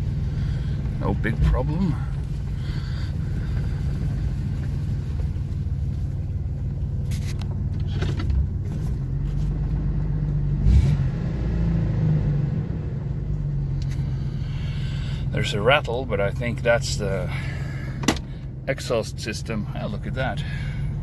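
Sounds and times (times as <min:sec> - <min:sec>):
engine low drone: 0:00.0 - 0:21.0.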